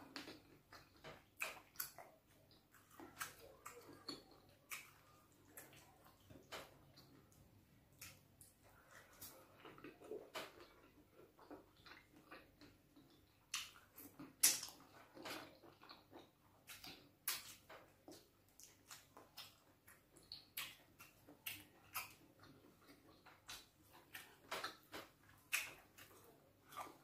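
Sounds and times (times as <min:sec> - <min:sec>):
wet chewing and lip smacks: 0:00.0 - 0:27.0.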